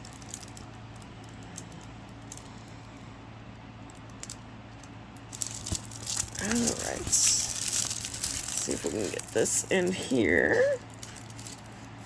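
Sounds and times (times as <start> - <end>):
faint handling clicks and rustles: 0.0 - 3.2, 3.8 - 12.0.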